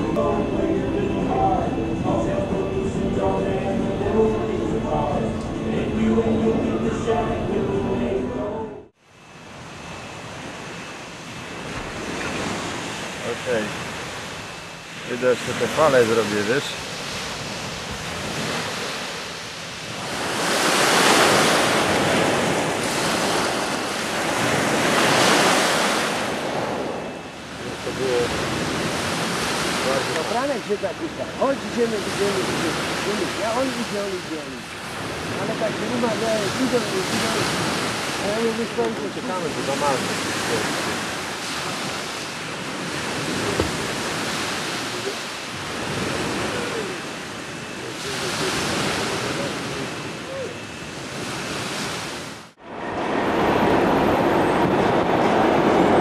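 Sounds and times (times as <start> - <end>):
wind rumbling on microphone: 0.0 - 56.0
small waves breaking on beach: 9.0 - 54.6.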